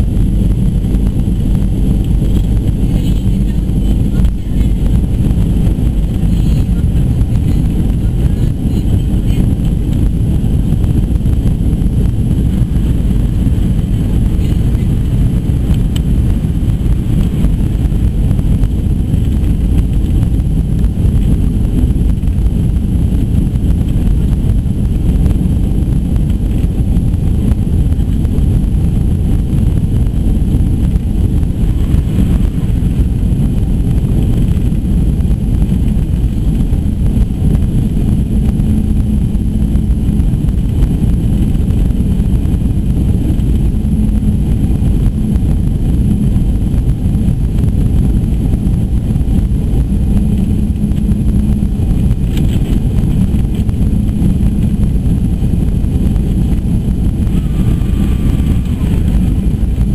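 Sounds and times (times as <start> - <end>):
airflow noise: 0.0 - 59.9
jet engine rumble in cabin: 0.0 - 59.9.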